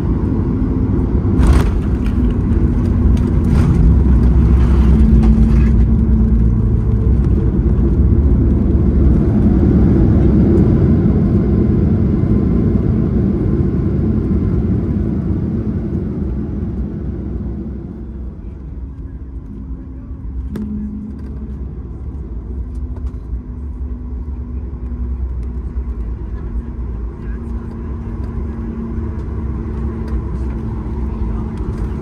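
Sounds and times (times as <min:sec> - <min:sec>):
airliner rumble on runway: 0:00.0 - 0:32.0.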